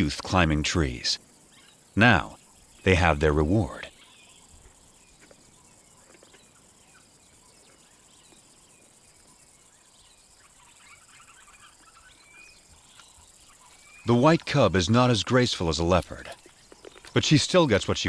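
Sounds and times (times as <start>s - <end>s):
small chirping calls: 0.0s - 18.0s.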